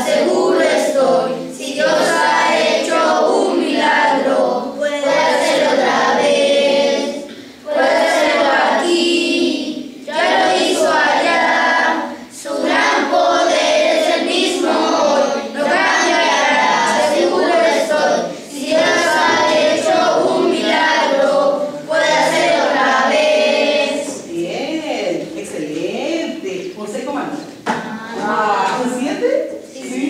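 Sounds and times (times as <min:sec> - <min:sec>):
children singing together: 0:00.0 - 0:24.3, 0:29.6 - 0:30.0.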